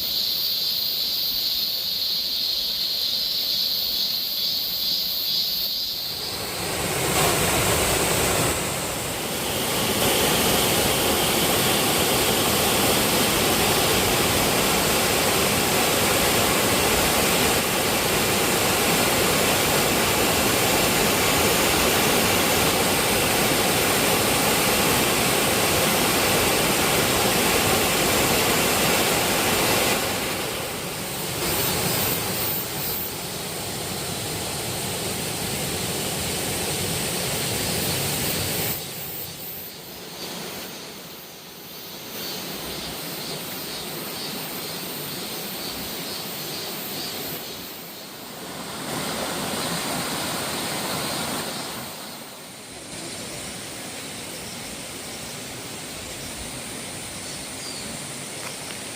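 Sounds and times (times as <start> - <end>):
waterfall rushing and splashing: 6.2 - 39.3, 42.3 - 58.9.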